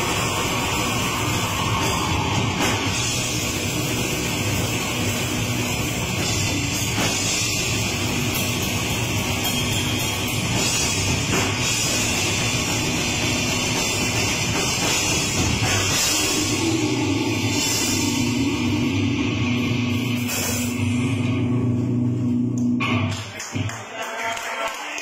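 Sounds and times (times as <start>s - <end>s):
heavy rock band playing: 0.0s - 23.7s.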